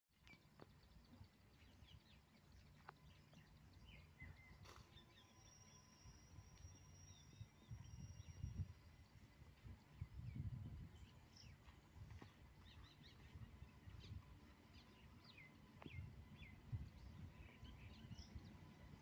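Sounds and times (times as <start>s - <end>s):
faint birds chirping: 0.1s - 19.0s.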